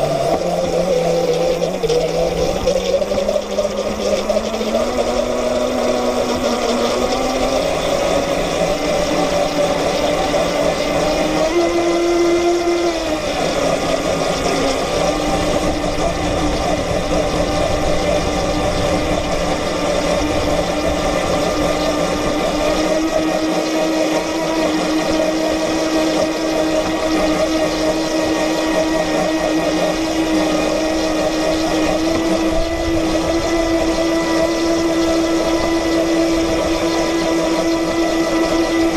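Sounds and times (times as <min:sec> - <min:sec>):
model boat motor whining: 0:00.0 - 0:38.9
water rushing along hull: 0:00.0 - 0:38.9.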